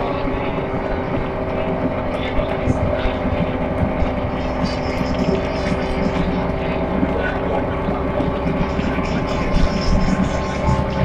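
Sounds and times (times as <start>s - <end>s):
bus engine running: 0.0s - 11.0s
road noise: 0.0s - 11.0s.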